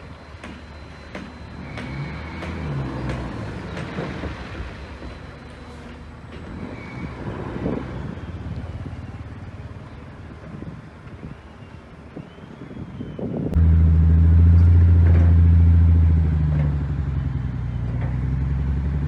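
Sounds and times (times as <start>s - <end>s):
heavy diesel machinery running: 0.0s - 12.2s, 13.5s - 19.0s.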